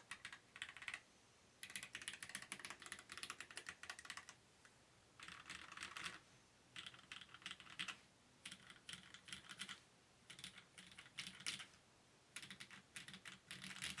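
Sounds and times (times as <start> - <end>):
mechanical keyboard typing: 0.0 - 1.0, 1.6 - 4.4, 5.2 - 6.2, 6.8 - 11.7, 12.4 - 14.0.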